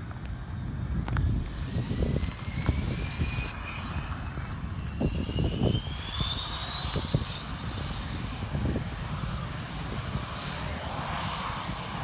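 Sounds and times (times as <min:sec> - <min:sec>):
distant jet engines spooling up: 0:00.0 - 0:12.0
wind rumbling on microphone: 0:00.0 - 0:12.0.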